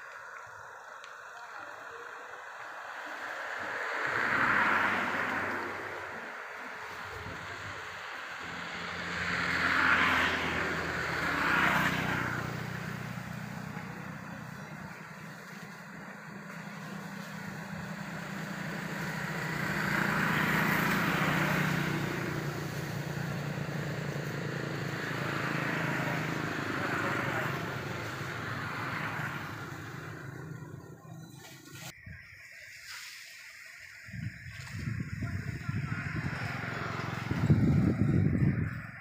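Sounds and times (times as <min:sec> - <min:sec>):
low engine hum: 0:00.0 - 0:32.0, 0:34.2 - 0:39.0
vehicles passing by: 0:00.0 - 0:39.0.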